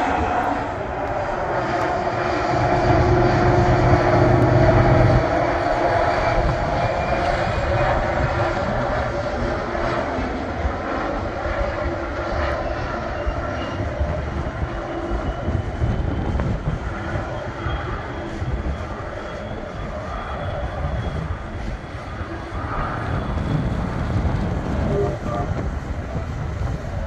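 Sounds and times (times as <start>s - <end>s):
train rolling rumble: 0.0s - 9.6s, 13.3s - 27.0s
diesel locomotive droning: 0.0s - 27.0s.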